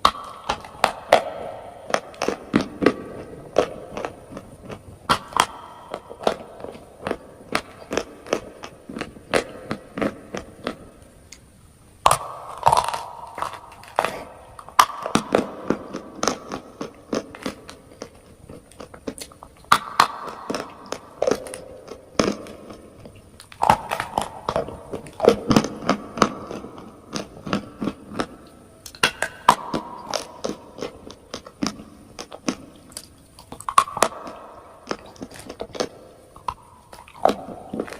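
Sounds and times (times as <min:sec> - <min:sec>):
person crunching chalk: 0:00.0 - 0:11.4, 0:12.0 - 0:37.9.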